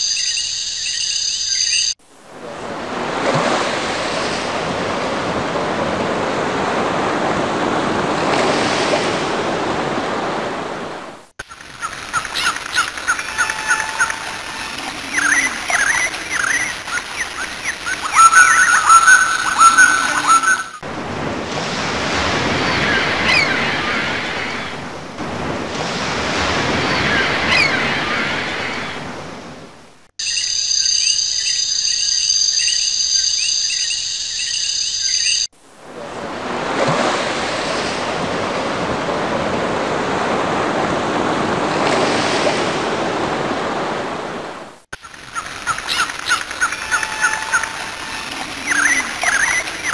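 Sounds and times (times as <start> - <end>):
sea waves washing in: 2.0 - 30.1, 35.5 - 49.9.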